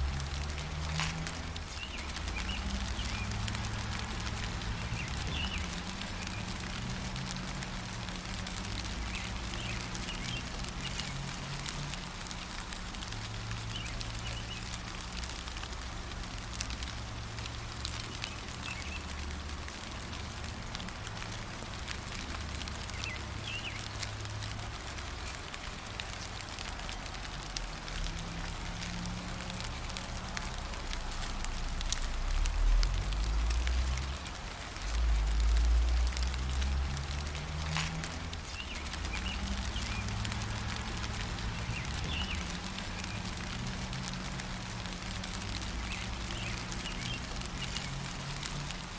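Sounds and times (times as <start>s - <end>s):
gentle rain pattering: 0.0s - 48.9s.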